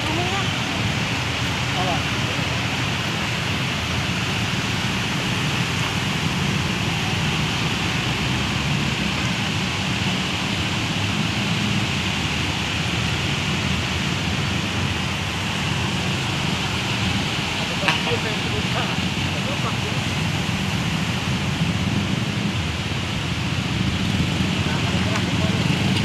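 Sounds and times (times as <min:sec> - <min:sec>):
traffic through flood water: 0:00.0 - 0:26.0.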